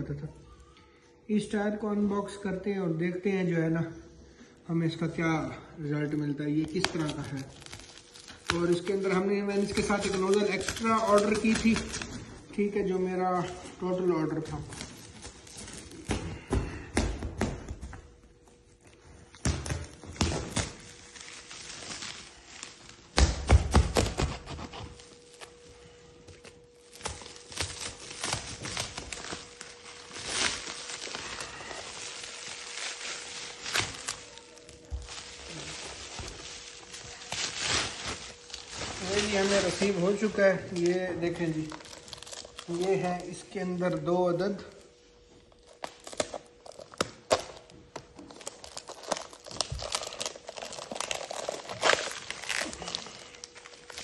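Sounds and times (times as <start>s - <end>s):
faint steady hum: 0.0s - 54.0s
plastic wrap crackling and tearing: 4.9s - 16.8s, 17.6s - 54.0s.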